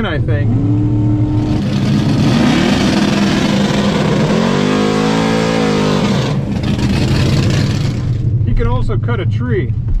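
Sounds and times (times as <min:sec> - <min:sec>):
loud engine revving: 0:00.3 - 0:08.3.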